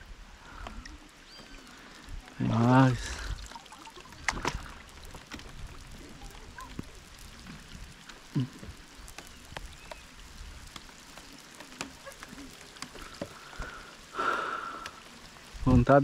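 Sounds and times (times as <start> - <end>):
raindrops pattering on water: 0.0 - 16.0
raindrops ticking on plastic kayak: 0.3 - 16.0.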